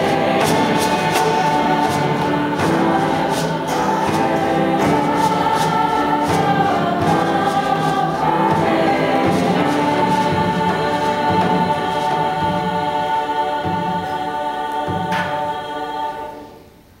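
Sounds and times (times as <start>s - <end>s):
low hand-drum strokes: 0.0s - 15.9s
choir singing a held chord: 0.0s - 16.9s.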